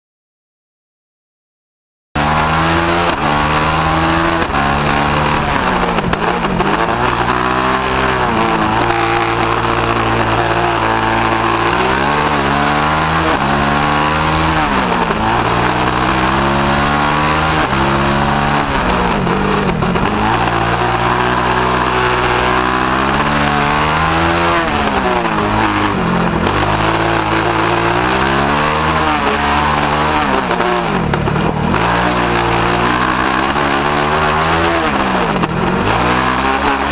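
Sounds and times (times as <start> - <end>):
race car engine revving: 2.2 - 36.9.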